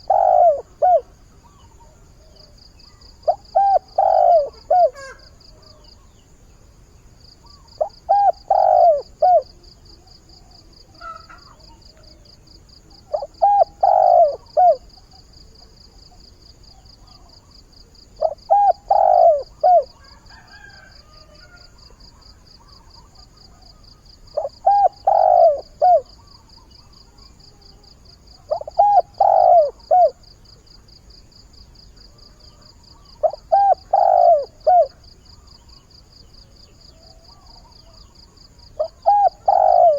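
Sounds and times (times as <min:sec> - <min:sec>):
dove cooing: 0:00.0 - 0:06.1, 0:07.5 - 0:12.3, 0:12.9 - 0:27.4, 0:28.3 - 0:30.3, 0:32.1 - 0:35.1, 0:36.9 - 0:39.9.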